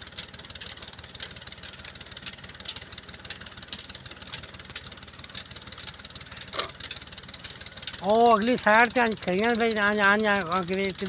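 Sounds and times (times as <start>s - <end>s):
engine chugging: 0.0s - 11.0s.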